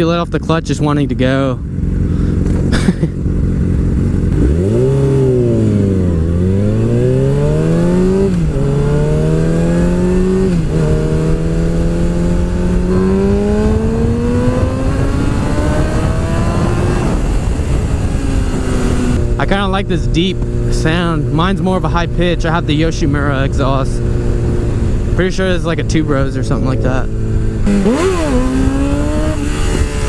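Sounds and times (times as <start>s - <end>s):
motorcycle engine accelerating: 0.0s - 30.0s
wind noise: 1.9s - 30.0s.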